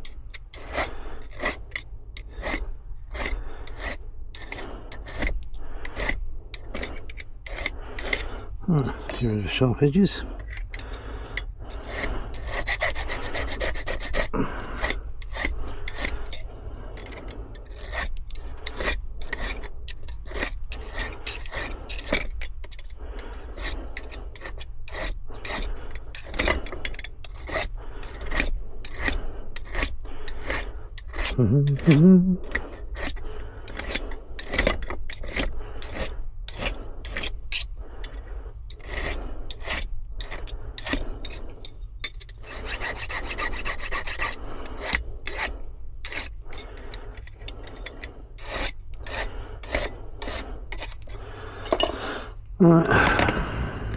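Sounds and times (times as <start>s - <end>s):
hand file rasping on metal: 0.0s - 53.3s.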